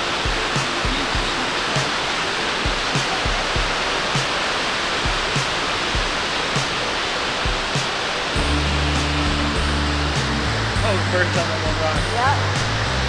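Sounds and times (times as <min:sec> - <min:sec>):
music with thumping beat: 0:00.0 - 0:13.0
waterfall roaring: 0:00.0 - 0:13.0.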